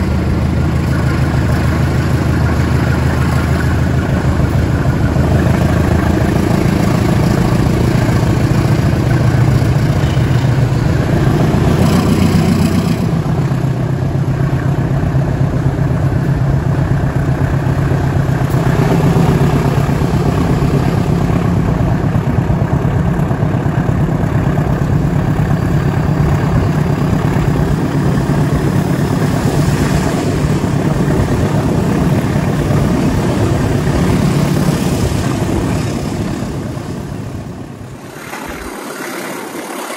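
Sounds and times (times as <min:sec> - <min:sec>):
diesel locomotive engine running hard: 0:00.0 - 0:39.9.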